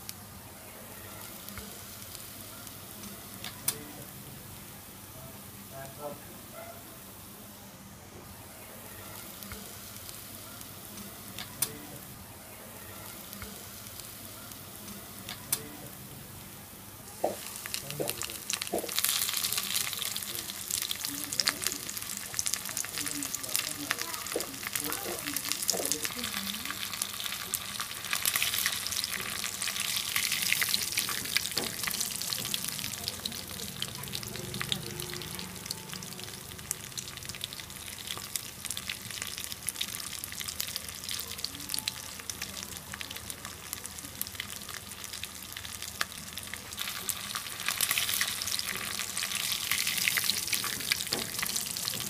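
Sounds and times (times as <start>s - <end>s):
fish sizzling in hot oil: 8.5s - 15.8s, 17.0s - 52.0s.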